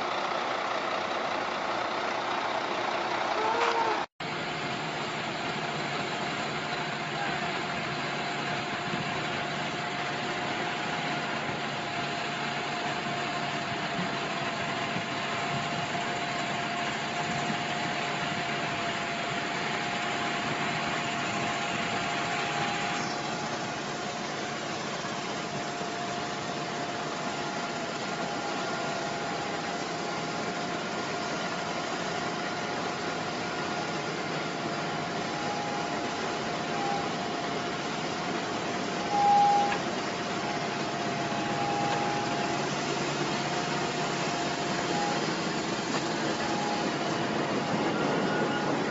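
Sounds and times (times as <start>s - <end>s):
engine running with whine: 0.0s - 48.9s.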